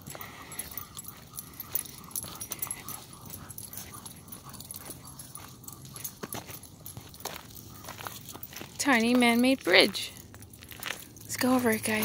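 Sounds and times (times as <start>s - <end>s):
dogs panting: 0.0s - 12.0s
gear clicks and jingles: 0.0s - 12.0s.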